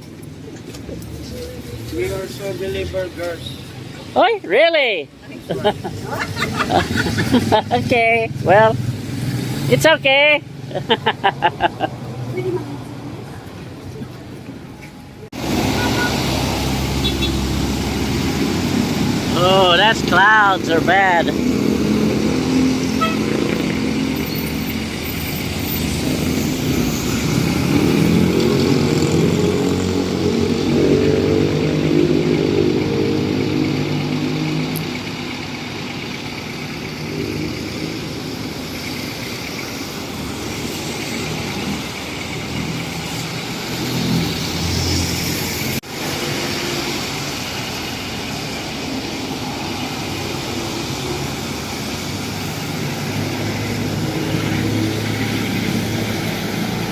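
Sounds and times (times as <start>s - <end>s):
traffic hum: 0.0s - 56.9s
vehicle engine running close: 10.5s - 56.9s.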